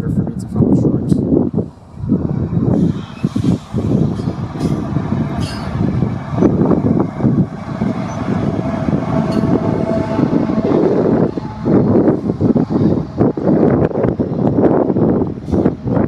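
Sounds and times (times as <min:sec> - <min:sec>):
freight train locomotives: 0:00.0 - 0:16.0
wind noise on microphone: 0:00.0 - 0:16.0.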